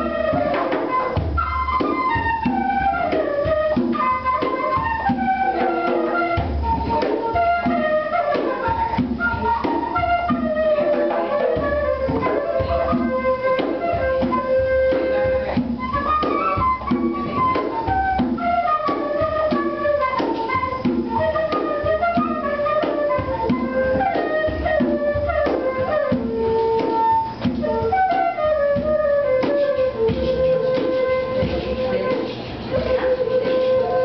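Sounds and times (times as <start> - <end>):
flute melody: 0.0 - 34.0.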